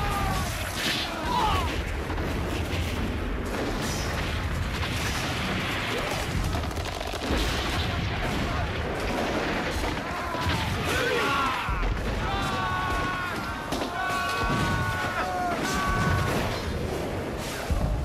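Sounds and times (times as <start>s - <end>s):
cannon fire: 0.0s - 18.0s
explosions: 0.0s - 18.0s
musket fire: 0.0s - 18.0s.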